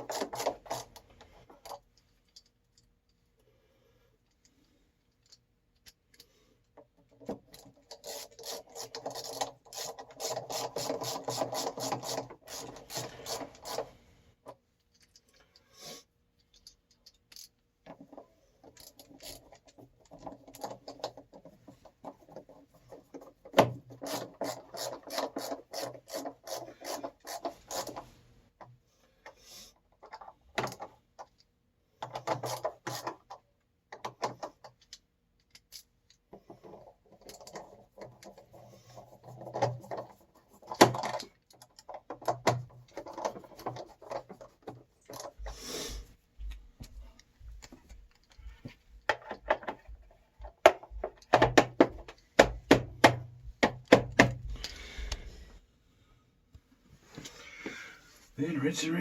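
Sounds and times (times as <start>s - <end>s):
rapid clicking and rubbing: 0.0s - 2.9s, 5.2s - 15.6s, 16.4s - 31.4s, 32.0s - 54.7s.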